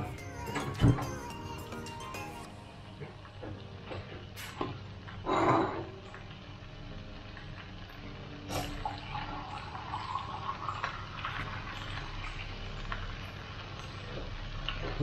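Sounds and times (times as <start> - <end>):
food sizzling and bubbling in a wok: 2.7 - 15.0.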